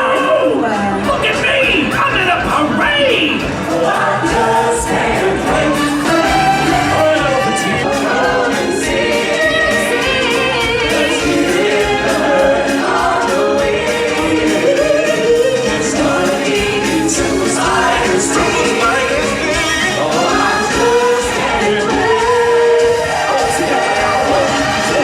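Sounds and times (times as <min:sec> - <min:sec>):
choir singing: 0:00.0 - 0:25.0
loud band music: 0:00.0 - 0:25.0.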